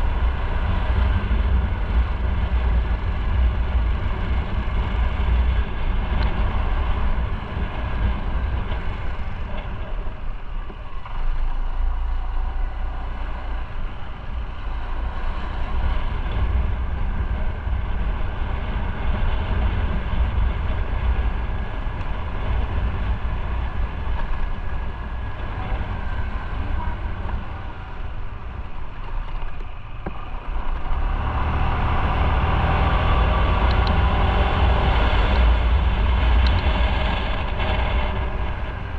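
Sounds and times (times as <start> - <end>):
wind rush: 0.0 - 11.6, 12.4 - 38.9.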